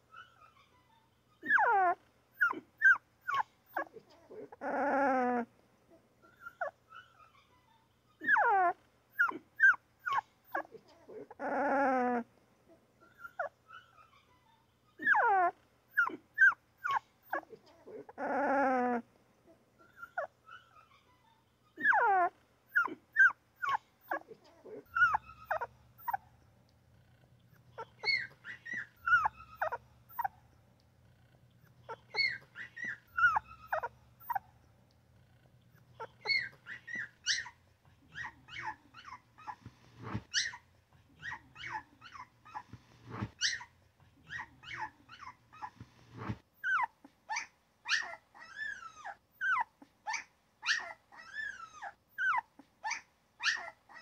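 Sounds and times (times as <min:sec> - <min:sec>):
puppy whimpering and crying: 0:00.0 - 0:05.5, 0:06.2 - 0:12.3, 0:13.0 - 0:19.1, 0:19.8 - 0:26.3, 0:27.1 - 0:30.4, 0:31.2 - 0:34.6, 0:35.3 - 0:54.0.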